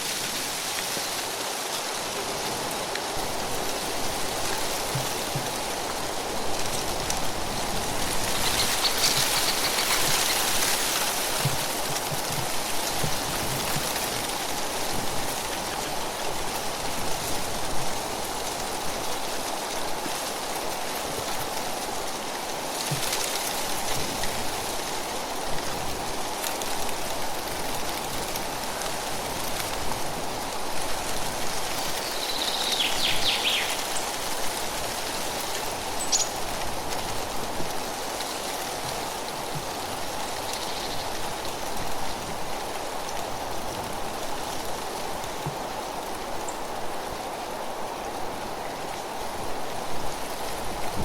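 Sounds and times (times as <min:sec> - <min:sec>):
wind rustling tree leaves: 0:00.0 - 0:51.0.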